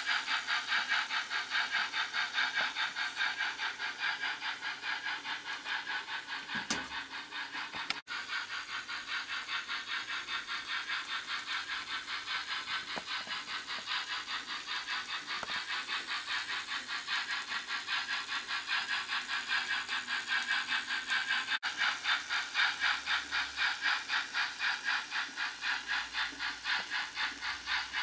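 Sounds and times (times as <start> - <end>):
model steam locomotive chuffing: 0.0 - 28.0
model train rattling on track: 0.0 - 28.0.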